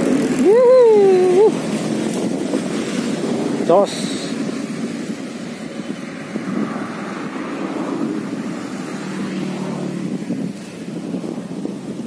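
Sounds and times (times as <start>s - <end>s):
vehicle passing on road: 0.0s - 12.0s
wind noise on microphone: 0.0s - 12.0s.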